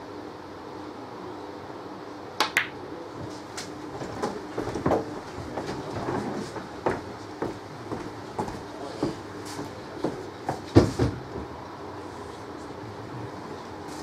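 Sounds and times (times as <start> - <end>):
room murmur: 0.0 - 14.0.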